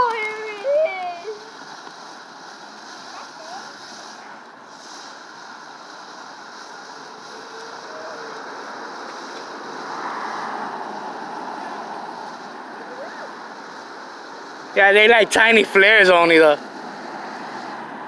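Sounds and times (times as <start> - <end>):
fountain firework hissing: 0.0 - 18.0.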